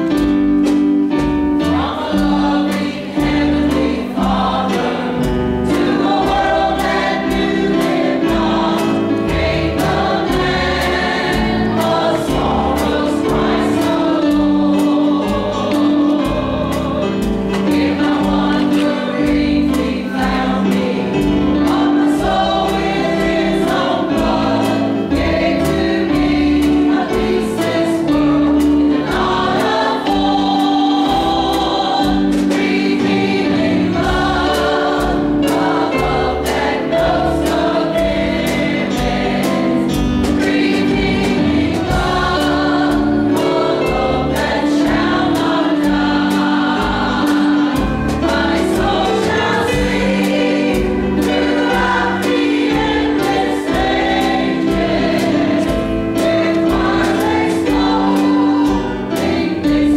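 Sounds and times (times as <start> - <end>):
choir singing gospel: 0.0 - 59.9
drum kit beat: 0.0 - 59.9.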